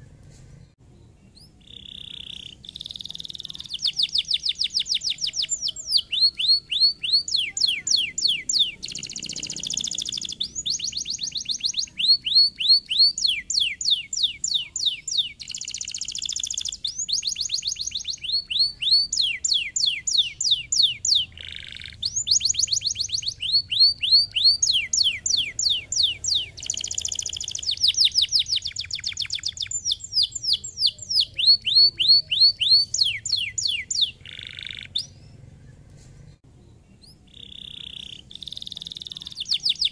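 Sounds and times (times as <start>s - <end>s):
canary singing trills: 0.9s - 39.9s.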